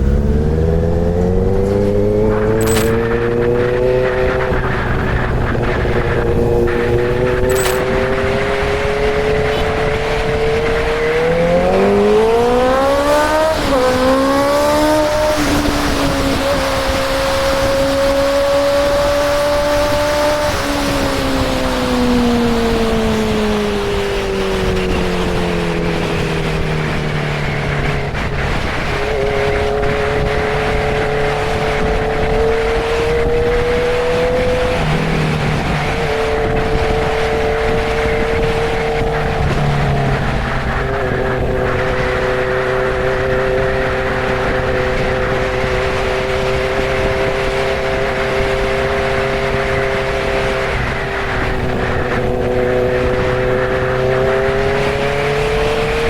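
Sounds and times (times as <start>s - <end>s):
motorcycle engine cruising: 0.0s - 56.0s
wind rush: 0.0s - 56.0s.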